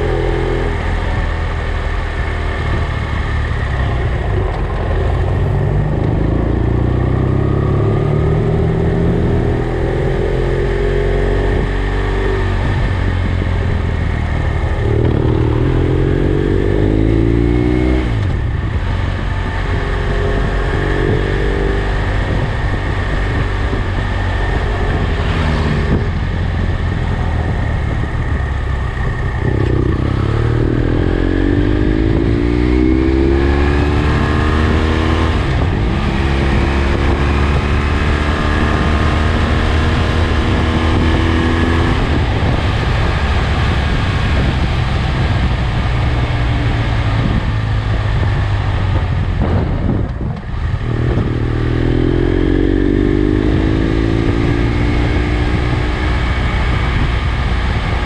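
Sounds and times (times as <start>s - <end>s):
motorcycle engine accelerating: 0.0s - 58.0s
wind rush: 0.0s - 58.0s.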